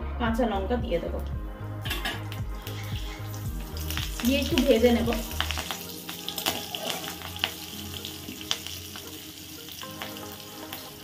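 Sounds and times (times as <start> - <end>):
frying sizzle with pops: 1.8 - 11.0.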